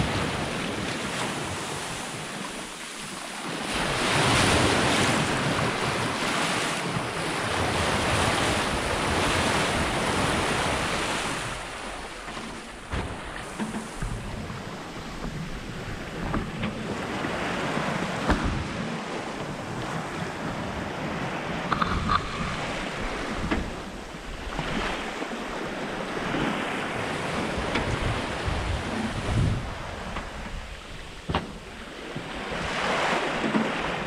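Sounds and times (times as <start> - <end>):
sea washing along hull: 0.0 - 34.0
wind on microphone: 3.6 - 34.0.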